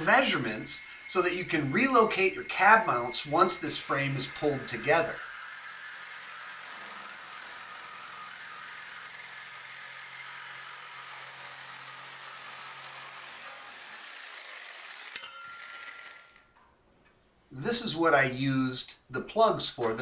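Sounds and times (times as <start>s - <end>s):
reciprocating saw cutting steel: 0.0s - 16.7s.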